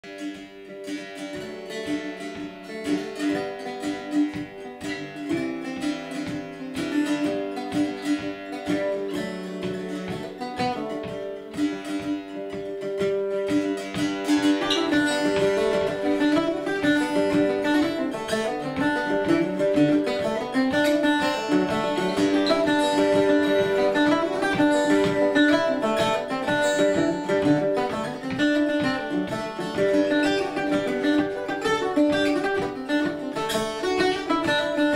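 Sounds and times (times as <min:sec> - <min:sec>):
plucked string instrument jig: 0:00.0 - 0:34.9.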